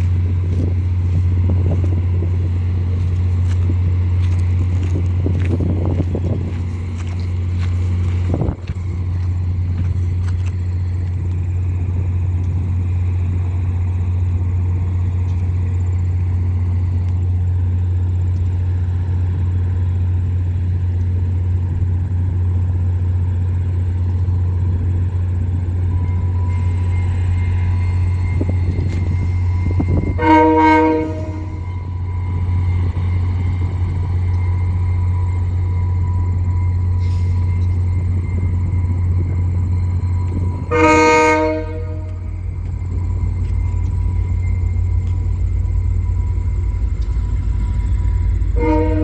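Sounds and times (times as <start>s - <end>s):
diesel locomotive idling hum: 0.0s - 49.0s.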